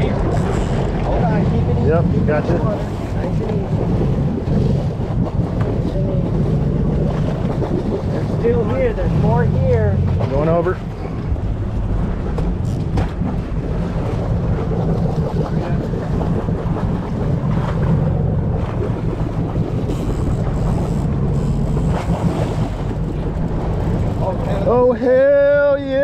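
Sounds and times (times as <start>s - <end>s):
water washing: 0.0s - 26.0s
wind buffeting microphone: 0.0s - 26.0s.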